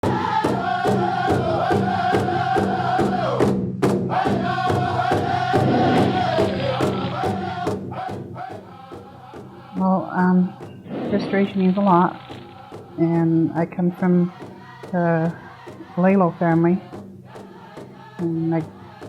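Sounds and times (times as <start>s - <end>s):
group chanting: 0.0s - 3.5s, 4.1s - 19.0s
drum beating steadily: 0.0s - 19.0s.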